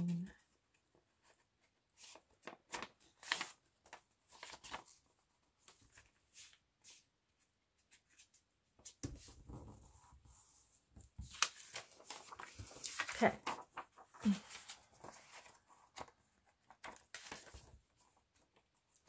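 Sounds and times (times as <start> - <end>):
book pages rustling: 0.8 - 19.0.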